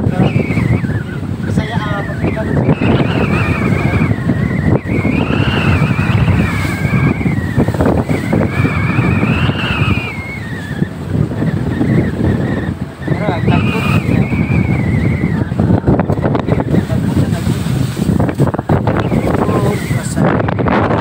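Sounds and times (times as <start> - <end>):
boat engine drone: 0.0 - 21.0
high wavering whine: 0.0 - 21.0
rushing water: 0.0 - 21.0
wind on microphone: 0.0 - 21.0.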